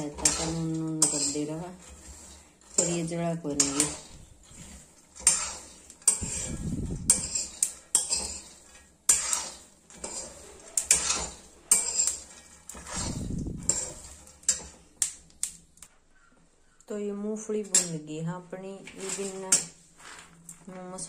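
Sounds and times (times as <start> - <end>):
spoon scraping metal pan: 0.0 - 15.7, 17.6 - 18.1, 18.8 - 21.0.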